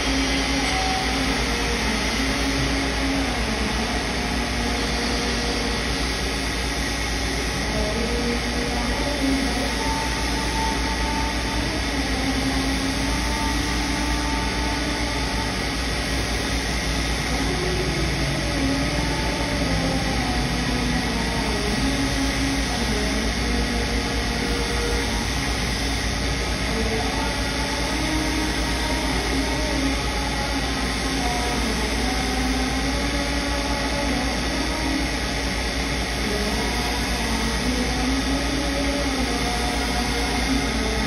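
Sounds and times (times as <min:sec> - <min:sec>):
grinding wheel running: 0:00.0 - 0:41.0.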